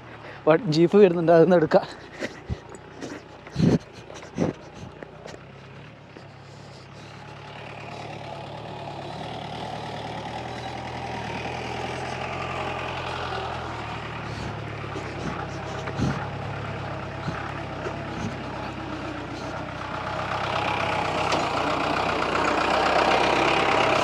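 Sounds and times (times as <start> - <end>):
jeep engine droning: 0.0 - 24.0.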